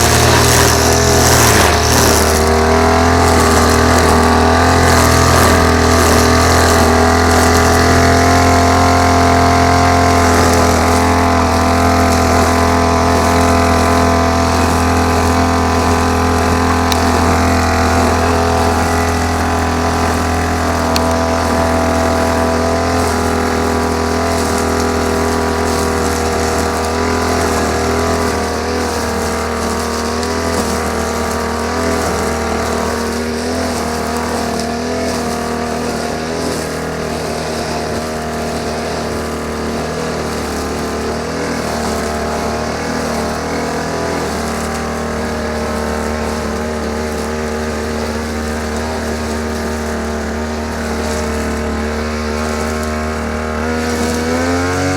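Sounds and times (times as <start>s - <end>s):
grass cutter petrol engine running: 0.0s - 54.9s.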